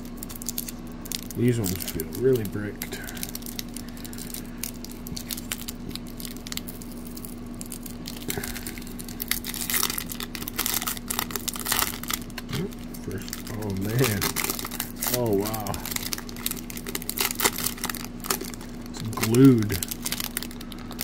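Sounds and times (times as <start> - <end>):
foil wrapper crinkling and tearing: 0.0 - 21.0.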